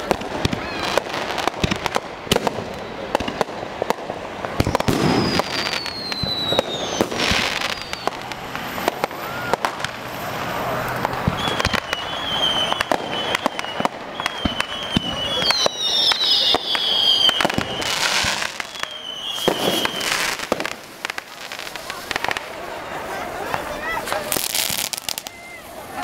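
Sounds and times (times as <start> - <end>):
firework whistle: 0.0 - 22.5, 23.5 - 26.0
firecracker bangs: 0.0 - 22.7, 23.4 - 25.6.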